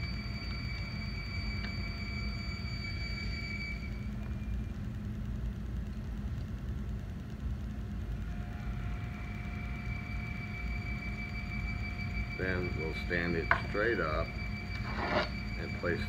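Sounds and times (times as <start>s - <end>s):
faint high-pitched whine: 0.0s - 16.0s
machinery rumbling: 0.0s - 16.0s
thin steady mid tone: 0.0s - 16.0s.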